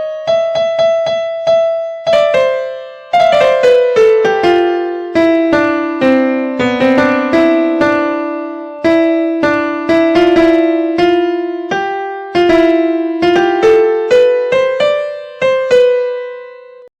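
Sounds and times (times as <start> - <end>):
ringtone melody: 0.0 - 16.9.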